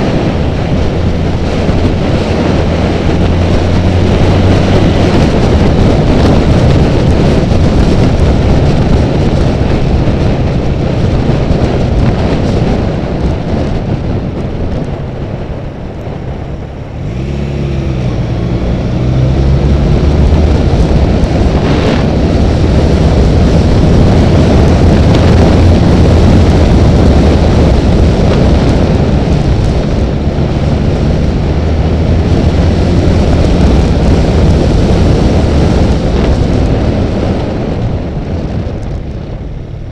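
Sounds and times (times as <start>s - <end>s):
motorcycle engine drone: 0.0s - 39.9s
wind and road noise: 0.0s - 39.9s.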